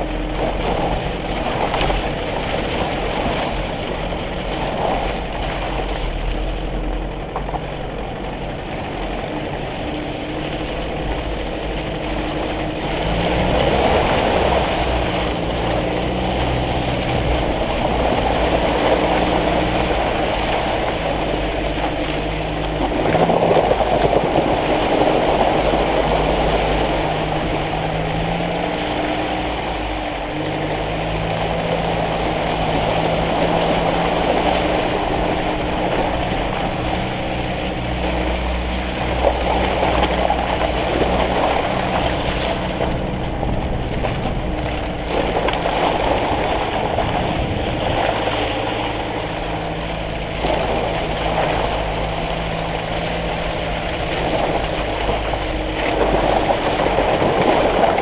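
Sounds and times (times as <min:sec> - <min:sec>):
diesel engine pulling vehicle: 0:00.0 - 0:58.0
wind rushing over microphone: 0:00.0 - 0:58.0.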